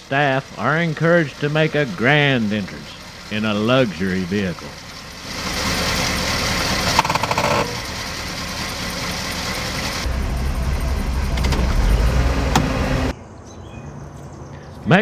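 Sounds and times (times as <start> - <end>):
car engine running: 0.0 - 13.1
deep engine rumble: 0.0 - 13.2.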